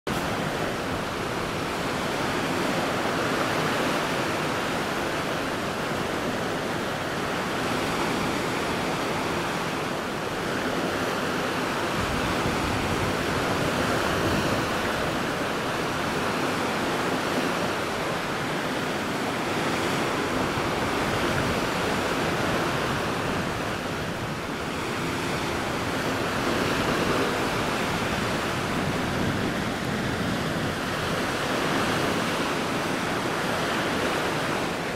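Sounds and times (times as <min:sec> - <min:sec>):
wind: 0:00.0 - 0:34.9
sea water rushing: 0:00.1 - 0:34.9.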